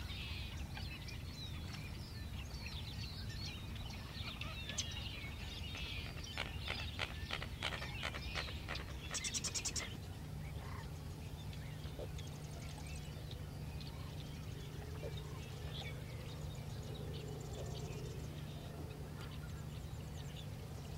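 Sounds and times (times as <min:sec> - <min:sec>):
steady low hum: 0:00.0 - 0:20.9
faint bird calls: 0:03.6 - 0:20.9.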